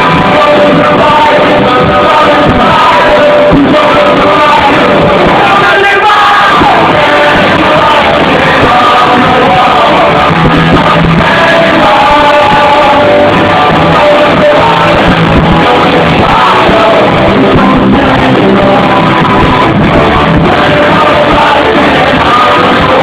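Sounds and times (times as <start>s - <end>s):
crowd shouting along: 0.0s - 23.0s
person singing: 0.0s - 23.0s
rockabilly band playing: 0.0s - 23.0s.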